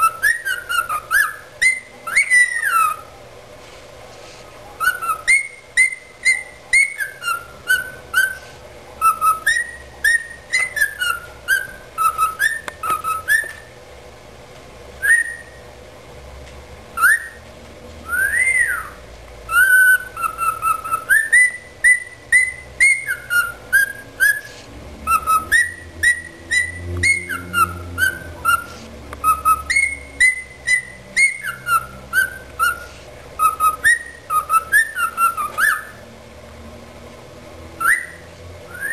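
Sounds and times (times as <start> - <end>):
cockatiel whistling: 0.0 - 3.1, 4.8 - 13.8, 15.0 - 15.7, 17.0 - 17.4, 18.0 - 36.1, 37.8 - 38.9.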